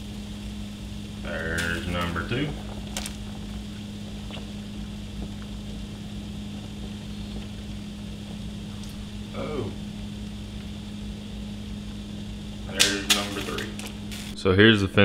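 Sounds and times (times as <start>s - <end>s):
water boiling in pot: 0.0s - 14.4s
low hum: 0.0s - 15.0s.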